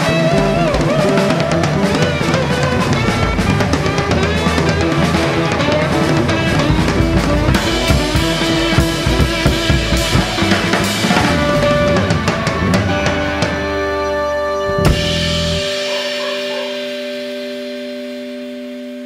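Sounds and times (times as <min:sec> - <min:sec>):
drum kit beat: 0:00.0 - 0:19.0
instrumental rock music: 0:00.0 - 0:19.0.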